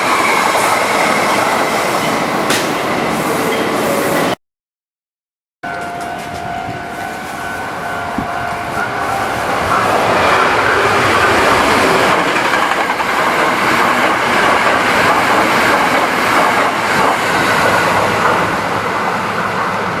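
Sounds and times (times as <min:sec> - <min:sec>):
train wheels rattling on rails: 0:00.0 - 0:04.4, 0:05.6 - 0:20.0.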